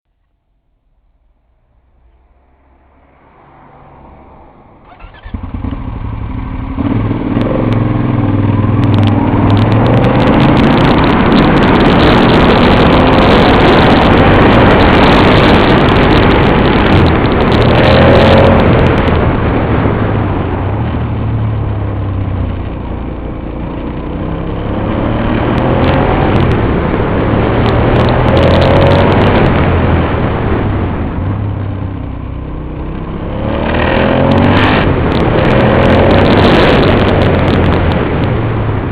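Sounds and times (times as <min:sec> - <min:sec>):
motorcycle engine revving: 0:02.2 - 0:38.9.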